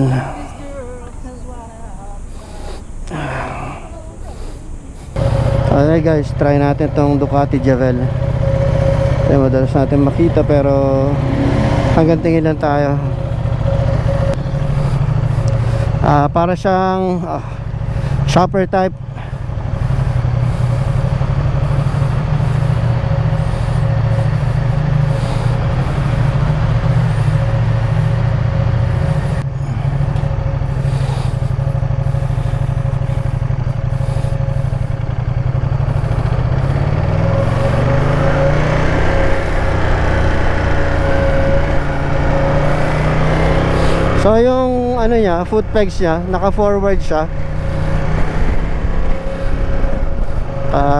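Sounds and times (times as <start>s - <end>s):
motorcycle engine droning: 0.0s - 50.9s
thin steady hum: 0.0s - 50.9s.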